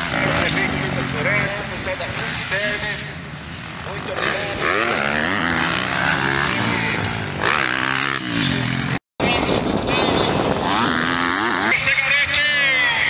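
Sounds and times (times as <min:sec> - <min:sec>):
motocross bike engine revving: 0:00.0 - 0:09.0, 0:10.3 - 0:13.0.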